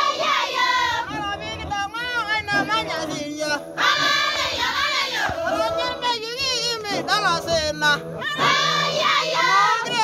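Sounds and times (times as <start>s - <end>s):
group of people singing: 0.0s - 10.0s.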